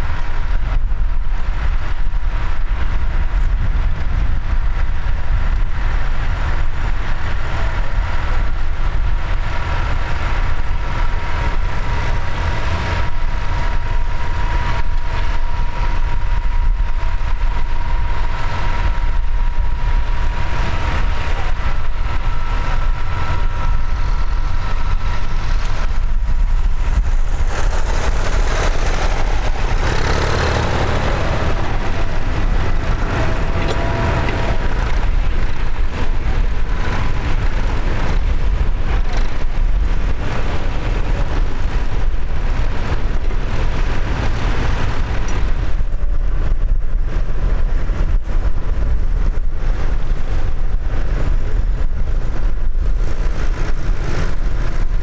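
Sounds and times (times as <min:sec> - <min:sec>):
thin steady whine: 0:00.0 - 0:55.0
tractor diesel engine running: 0:00.0 - 0:55.0.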